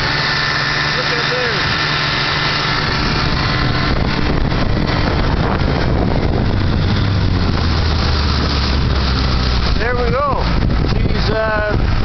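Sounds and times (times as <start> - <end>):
loud rushing noise: 0.0 - 12.0
low hum: 0.0 - 12.0
outboard engine running: 0.0 - 12.0.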